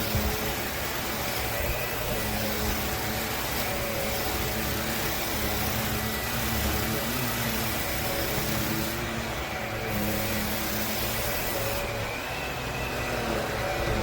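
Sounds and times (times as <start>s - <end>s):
cordless vacuum running: 0.0s - 14.0s.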